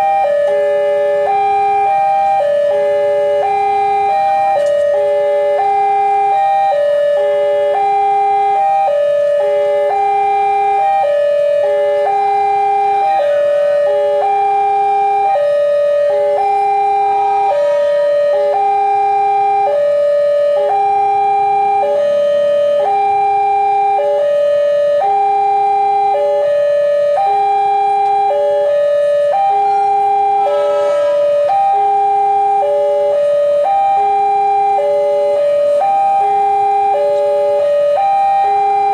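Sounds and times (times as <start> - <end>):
level-crossing warning alarm: 0.0 - 38.9.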